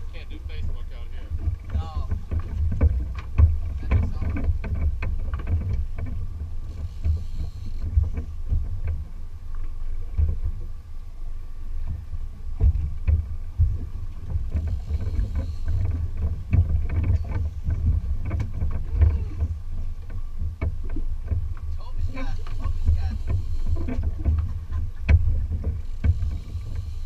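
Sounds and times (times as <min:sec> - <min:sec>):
water slapping boat hull: 0:00.0 - 0:27.0
wind on microphone: 0:00.0 - 0:27.0
knocks and thumps: 0:00.7 - 0:09.1, 0:12.6 - 0:26.9.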